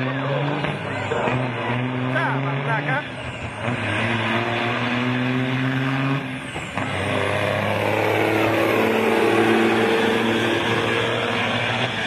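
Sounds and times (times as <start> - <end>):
truck diesel engine pulling hard: 0.0 - 12.0.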